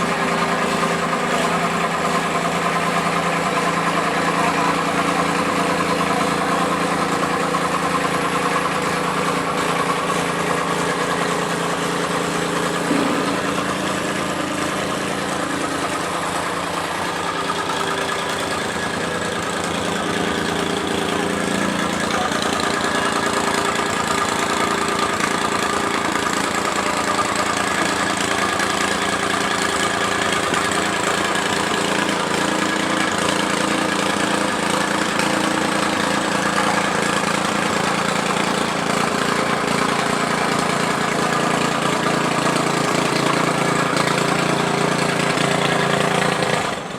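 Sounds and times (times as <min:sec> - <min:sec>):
tamping rammer engine running: 0:00.0 - 0:46.9.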